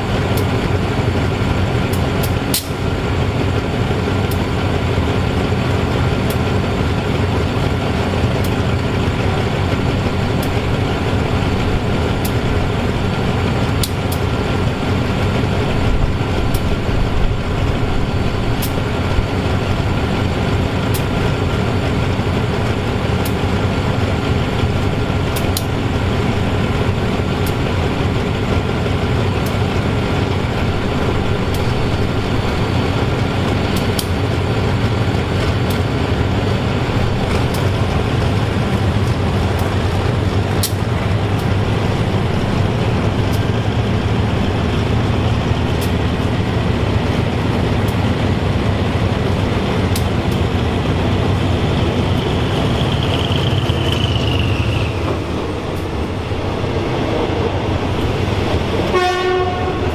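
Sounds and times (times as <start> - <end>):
locomotive engine idling: 0.0 - 59.9.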